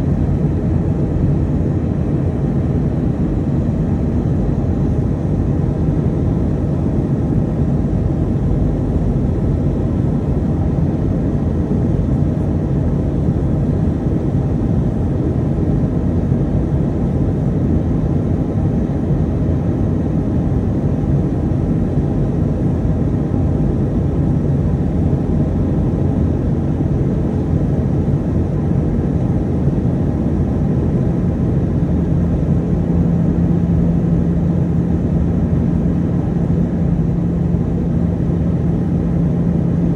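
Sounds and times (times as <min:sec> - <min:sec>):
airliner cabin engine rush: 0:00.0 - 0:39.9
steady hum: 0:00.0 - 0:39.9.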